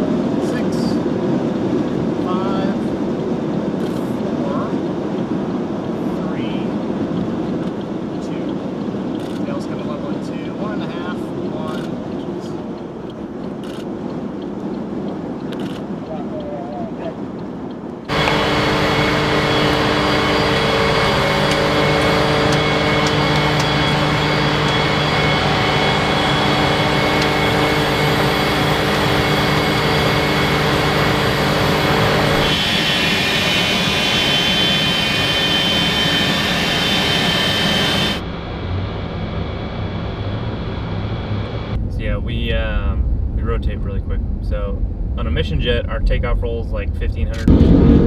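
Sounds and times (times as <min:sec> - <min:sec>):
jet engine roaring with whine: 0:00.0 - 0:48.0.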